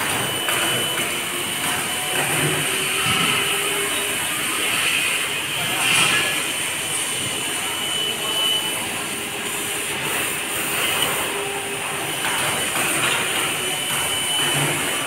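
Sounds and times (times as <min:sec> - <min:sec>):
laser cutter hissing: 0:00.0 - 0:15.0.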